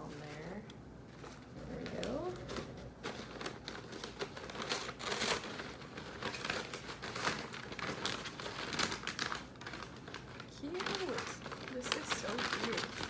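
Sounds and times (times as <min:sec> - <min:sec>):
paper packaging crinkling: 0:01.1 - 0:13.0.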